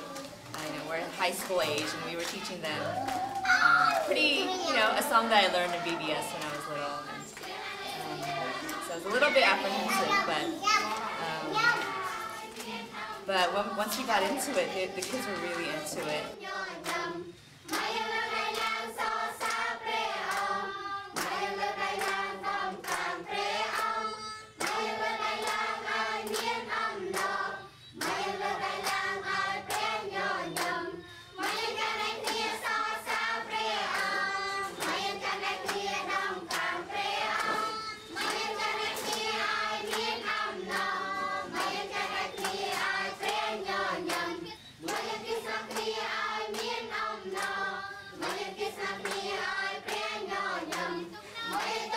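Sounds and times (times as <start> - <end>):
hand clapping: 0.0 - 4.4, 5.0 - 9.2, 16.8 - 51.9
children singing: 0.0 - 51.9.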